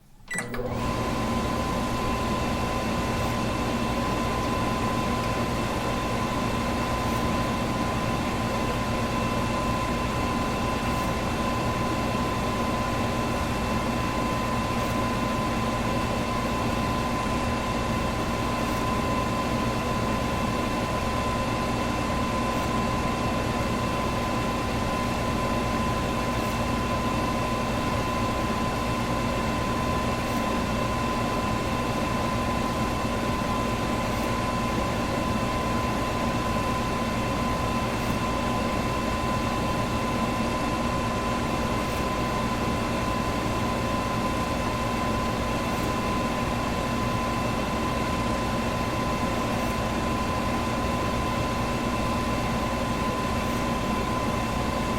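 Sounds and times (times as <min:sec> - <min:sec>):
electric fan running: 0:00.0 - 0:54.9.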